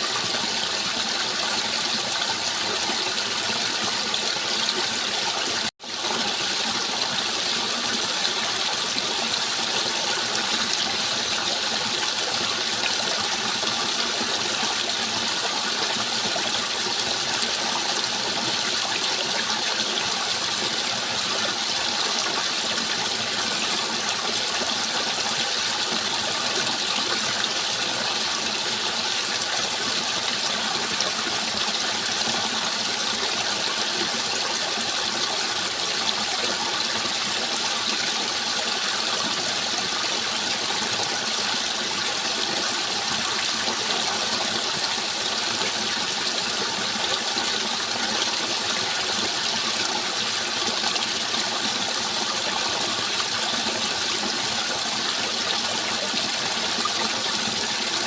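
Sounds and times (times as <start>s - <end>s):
rushing flowing water: 0.0s - 58.0s.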